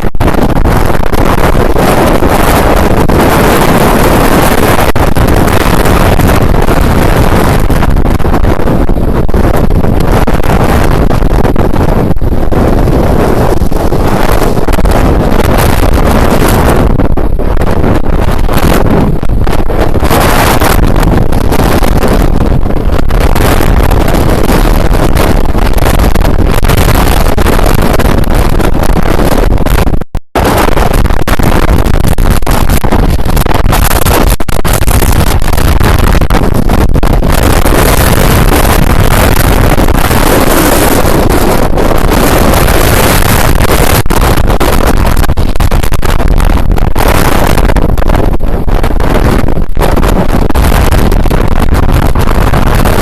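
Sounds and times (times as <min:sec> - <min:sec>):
heavy surf: 0:00.0 - 0:53.0
strong wind buffeting microphone: 0:00.0 - 0:53.0.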